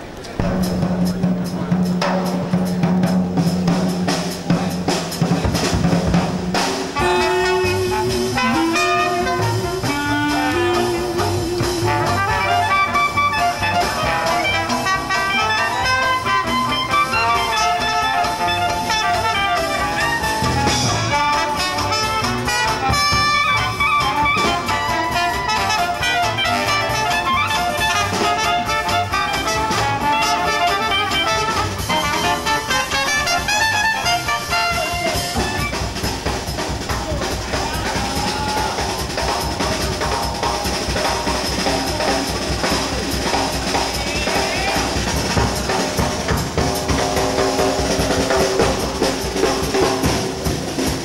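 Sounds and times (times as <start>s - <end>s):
drums: 0.0s - 51.0s
trombone: 0.4s - 51.0s
trumpet: 0.4s - 51.0s
clarinet: 6.7s - 49.5s.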